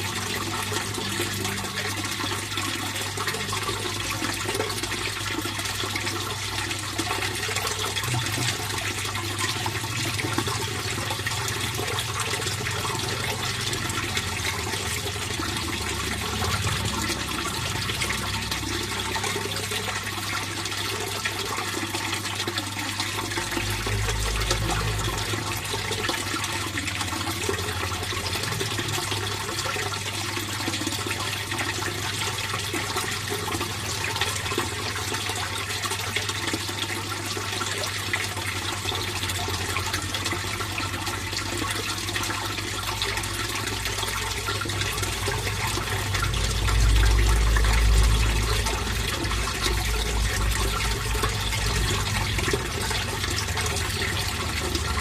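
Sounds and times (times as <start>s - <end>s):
water flowing and splashing: 0.0s - 55.0s.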